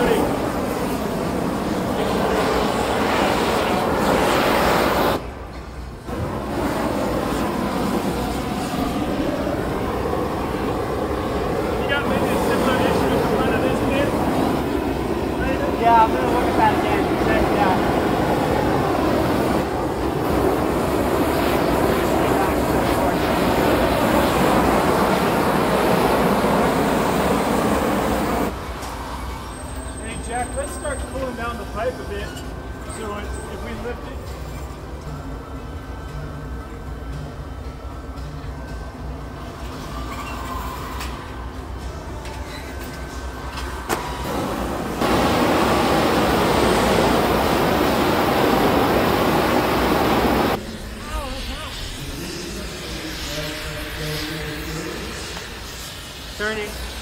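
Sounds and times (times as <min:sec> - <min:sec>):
gas torches rushing: 0:00.0 - 0:35.0, 0:42.6 - 0:57.0.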